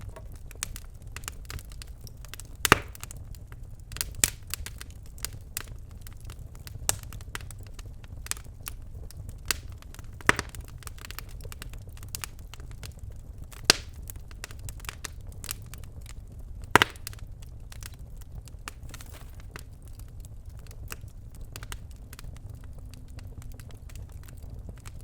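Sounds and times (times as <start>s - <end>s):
logs crackling and popping: 0.0s - 25.0s
low fire rumble: 0.0s - 25.0s.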